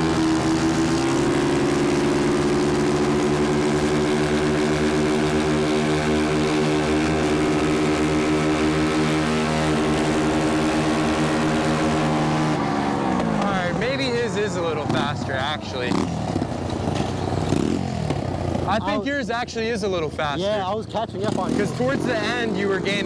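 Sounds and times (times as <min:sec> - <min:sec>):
pit bike engine at high revs: 0:00.0 - 0:23.0.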